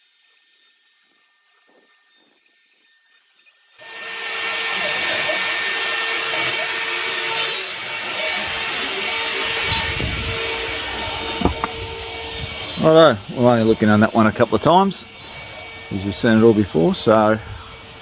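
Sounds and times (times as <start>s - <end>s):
router spindle cutting wood: 0.0s - 18.0s.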